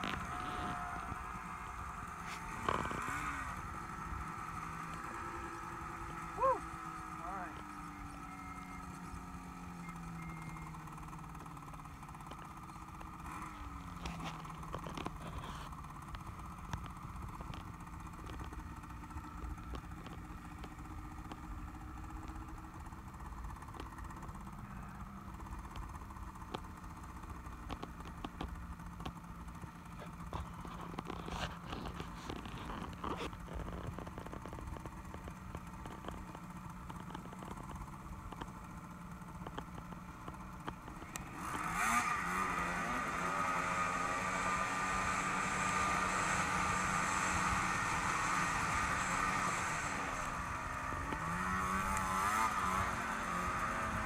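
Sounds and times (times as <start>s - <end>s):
snowmobile engine droning: 0.0s - 54.0s.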